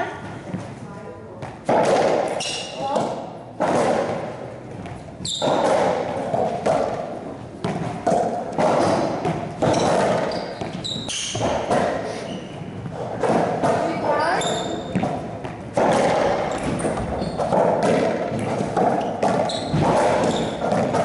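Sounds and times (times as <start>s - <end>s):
racquetball hitting walls and floor: 0.0s - 21.0s
shoes squeaking on court floor: 2.3s - 3.0s, 4.1s - 21.0s.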